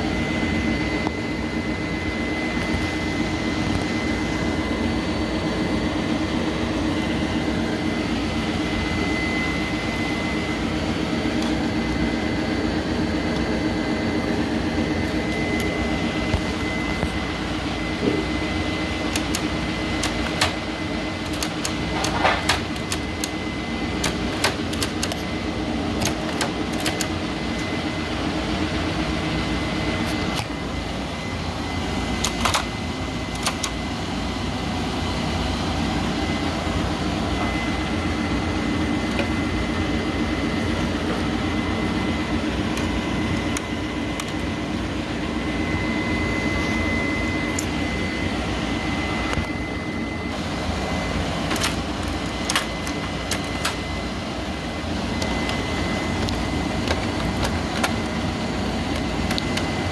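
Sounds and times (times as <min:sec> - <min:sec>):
printer machine hum with whine: 0:00.0 - 0:59.9.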